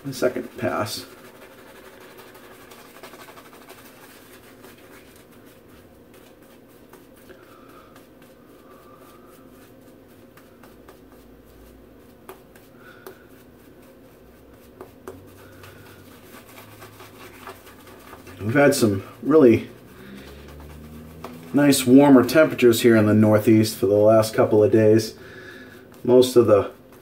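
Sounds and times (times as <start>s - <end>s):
shaving brush rubbing on scalp: 0.0s - 27.0s.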